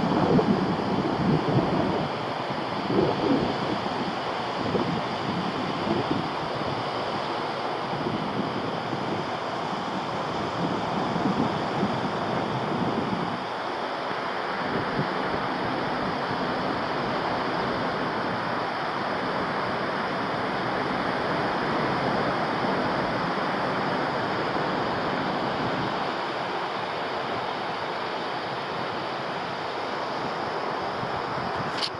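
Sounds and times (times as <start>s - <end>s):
ocean surf rushing: 0.0s - 31.9s.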